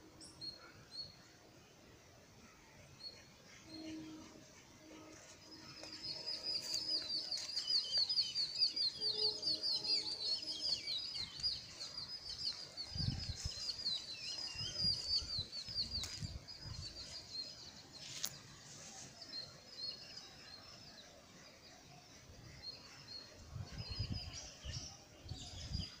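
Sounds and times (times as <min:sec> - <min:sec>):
small birds chirping: 0:02.5 - 0:26.0.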